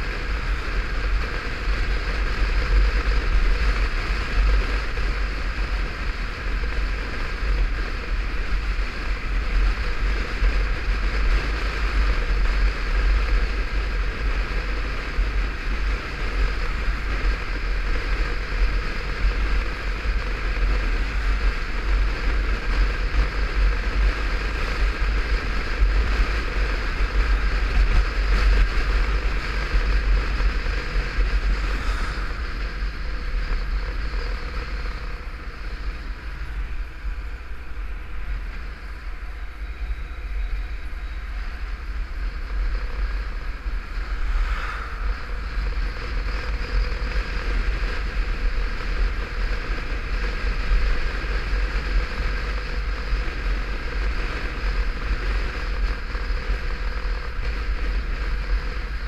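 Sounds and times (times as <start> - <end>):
motorcycle engine: 0.0 - 59.0
wind buffeting camera: 0.0 - 59.0.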